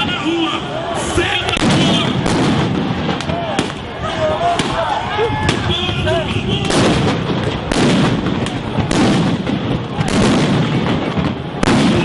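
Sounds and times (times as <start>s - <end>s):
loud crowd din: 0.0s - 12.0s.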